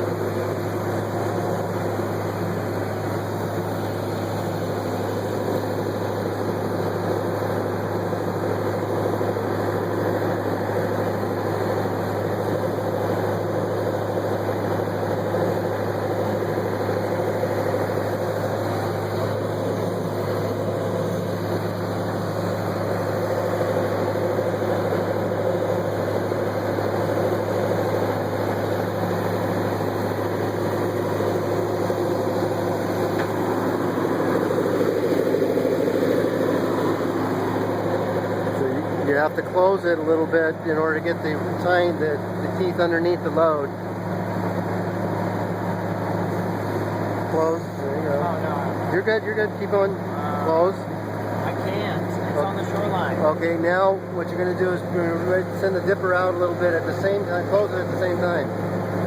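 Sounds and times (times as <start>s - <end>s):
backhoe engine running: 0.0s - 59.0s.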